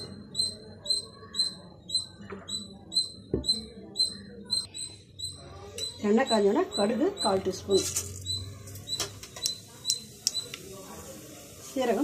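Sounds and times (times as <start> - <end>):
high chirps: 0.0 - 10.6.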